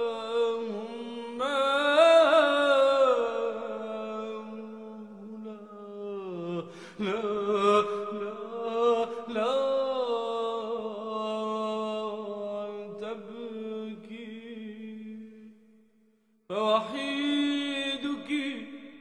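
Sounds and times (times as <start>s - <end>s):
solo voice chanting: 0.0s - 19.0s.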